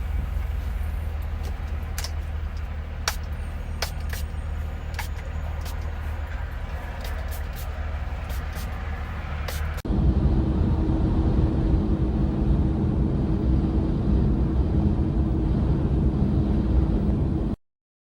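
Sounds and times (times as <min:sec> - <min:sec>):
faint constant hum: 0:00.0 - 0:17.0
heavy truck engine rumble: 0:00.0 - 0:17.6.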